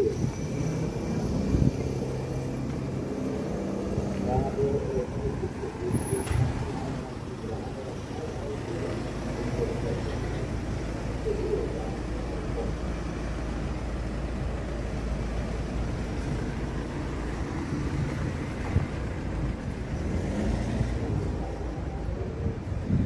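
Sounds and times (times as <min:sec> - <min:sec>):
low town rumble: 0:00.0 - 0:23.0.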